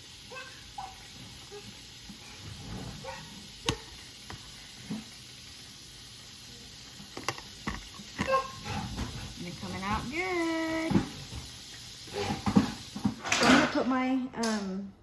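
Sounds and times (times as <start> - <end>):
oil sizzling in a pan: 0.0 - 14.2.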